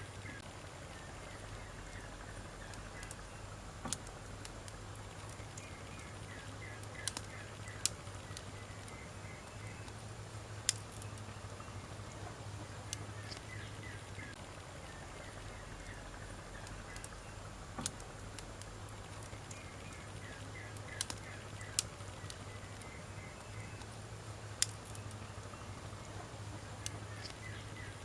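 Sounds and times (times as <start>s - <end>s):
steady low hum: 0.0s - 28.0s
wood fire popping and crackling: 0.0s - 28.0s.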